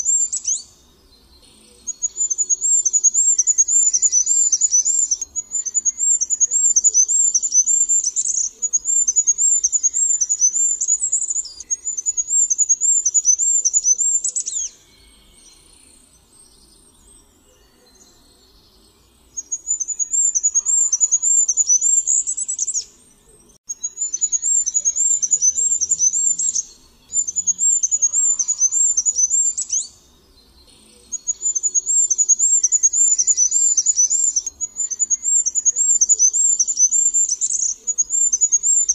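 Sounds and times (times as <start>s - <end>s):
small bird singing high notes: 0.0s - 0.8s, 1.8s - 16.0s, 19.4s - 23.0s, 23.6s - 30.0s, 31.1s - 38.9s.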